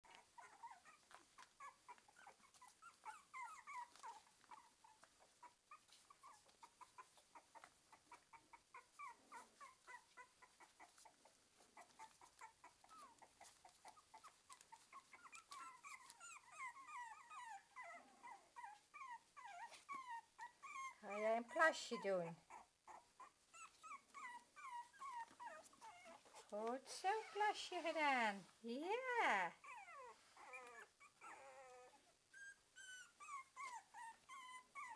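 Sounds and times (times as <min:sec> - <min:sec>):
puppies whimpering: 0:00.0 - 0:28.3, 0:28.9 - 0:34.9.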